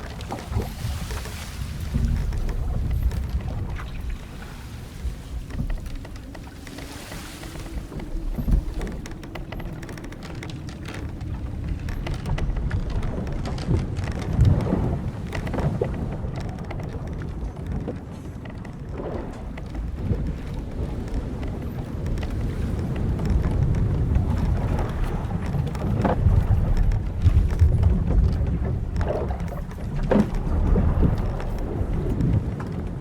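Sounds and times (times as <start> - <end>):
wind and waves rumbling: 0.0 - 33.0
wooden hull creaking: 0.0 - 33.0.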